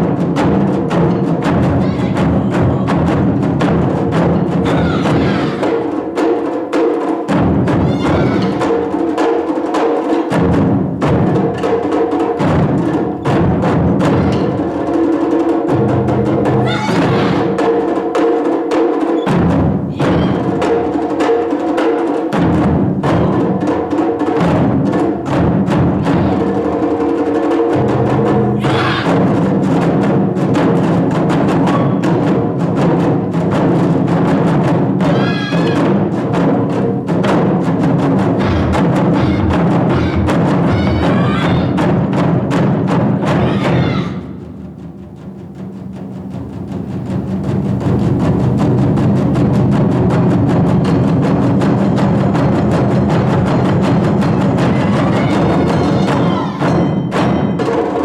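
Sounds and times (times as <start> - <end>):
taiko drums playing: 0.0 - 58.0.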